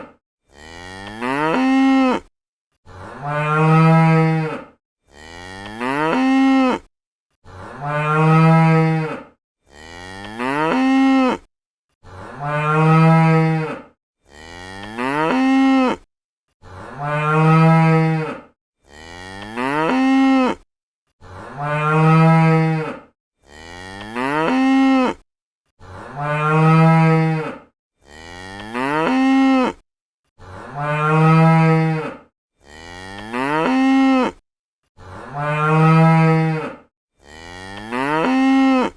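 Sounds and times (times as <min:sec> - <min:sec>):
cow mooing: 0:00.5 - 0:25.2, 0:25.8 - 0:29.8, 0:30.4 - 0:34.4, 0:35.0 - 0:38.9.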